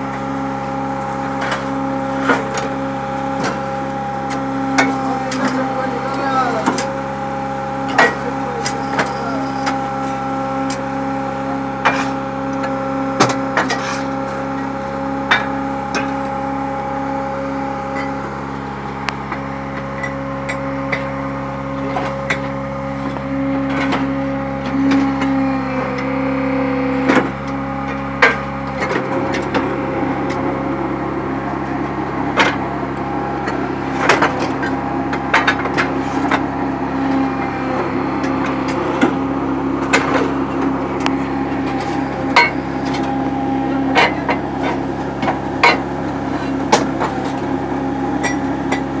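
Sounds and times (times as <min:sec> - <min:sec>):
machine motor hum: 0:00.0 - 0:49.0.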